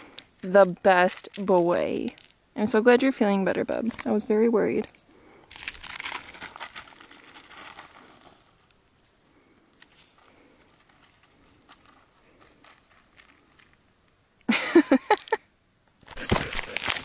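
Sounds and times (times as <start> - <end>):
dog paws crunching gravel: 0.5 - 14.2, 16.0 - 17.0.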